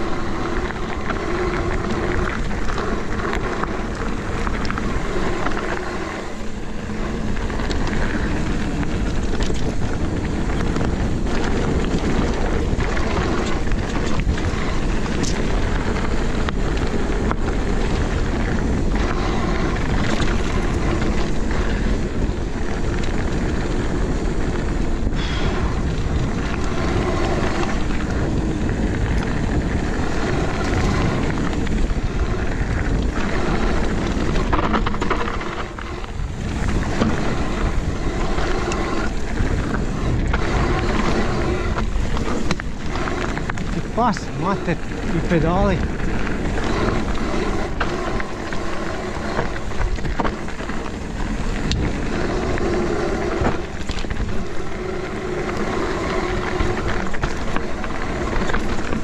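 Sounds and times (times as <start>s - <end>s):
bike rattles and knocks over bumps: 0.0s - 59.0s
bike tyre noise: 0.0s - 59.0s
wind rumble on microphone: 0.0s - 59.0s.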